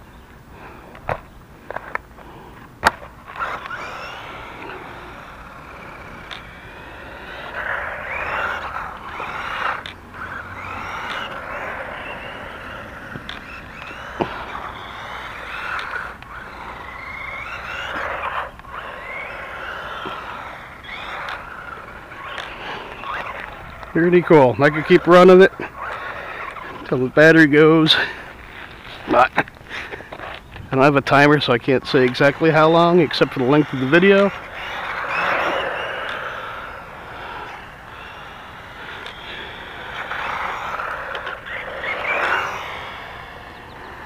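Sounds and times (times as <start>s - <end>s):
toy car motor whining: 0.6s - 44.0s
tyres running over pavement: 0.9s - 44.0s.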